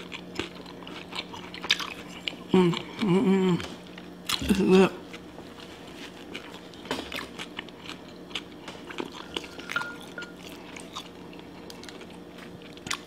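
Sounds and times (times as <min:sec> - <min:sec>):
chewing crispy fried chicken: 0:00.0 - 0:13.0.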